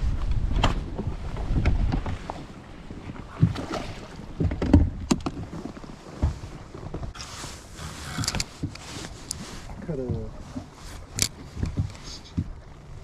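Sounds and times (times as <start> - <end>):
rush of wind and water: 0.0 - 13.0
waves slapping boat hull: 0.0 - 13.0
wind on microphone: 0.0 - 13.0.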